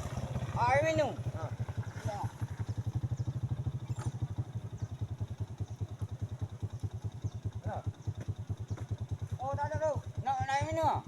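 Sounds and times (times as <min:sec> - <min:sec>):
small engine thudding: 0:00.0 - 0:09.4.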